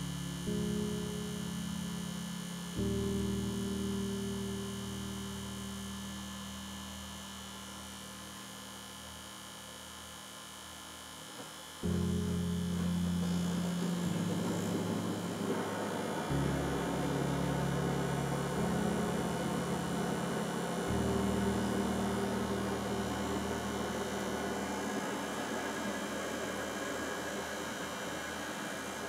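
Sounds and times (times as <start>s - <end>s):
low sustained music chords: 0.0s - 29.0s.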